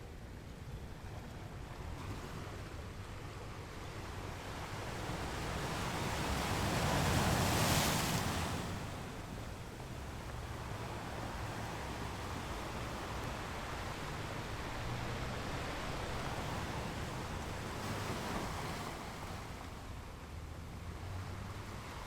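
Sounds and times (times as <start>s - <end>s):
low rumble of sea: 0.0s - 22.0s.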